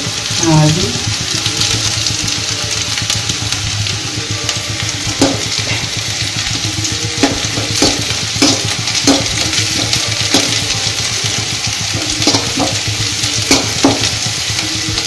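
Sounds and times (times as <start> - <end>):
shallots sizzling in oil: 0.0 - 15.0
spoon stirring in pan: 0.2 - 15.0.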